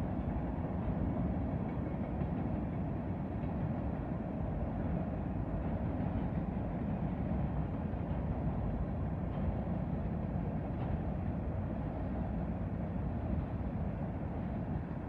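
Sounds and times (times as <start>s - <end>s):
freight train wheels rolling on rails: 0.0s - 15.0s.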